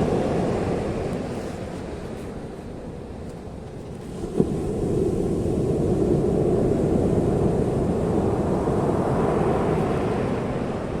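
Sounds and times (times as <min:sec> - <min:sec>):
ocean surf washing onto beach: 0:00.0 - 0:11.0.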